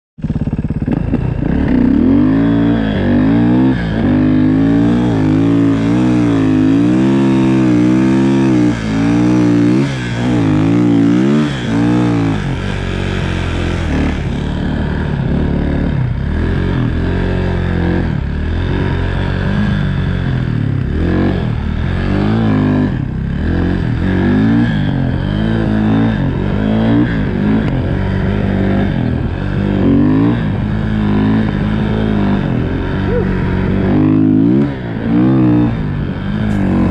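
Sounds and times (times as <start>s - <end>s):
snowmobile engine revving: 0.2s - 36.9s.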